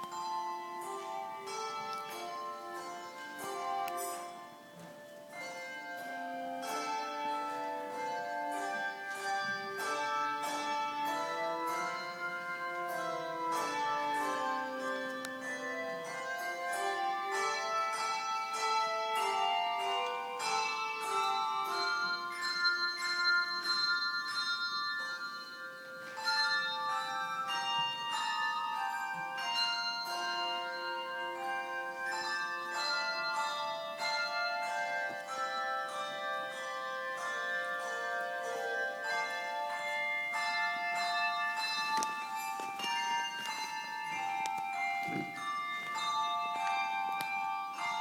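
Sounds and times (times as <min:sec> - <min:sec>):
handbells ringing: 0:00.0 - 0:48.0.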